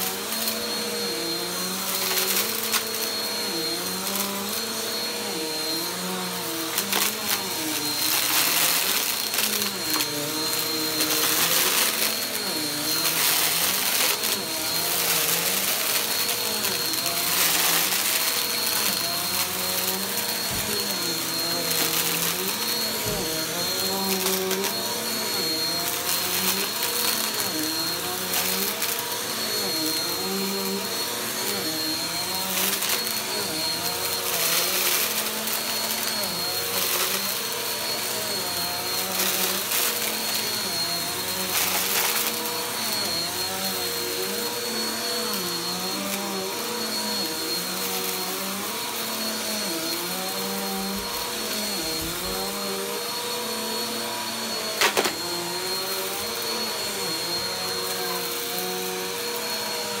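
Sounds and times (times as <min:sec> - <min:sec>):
vacuum cleaner on carpet: 0:00.0 - 1:00.0.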